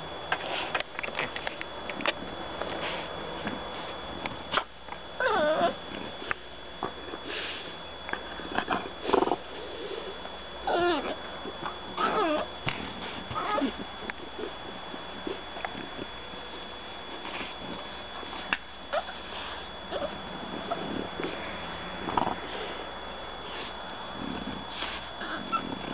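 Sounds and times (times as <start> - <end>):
dogs whiny grumbling: 2.6 - 16.6, 17.2 - 22.9, 23.5 - 25.9.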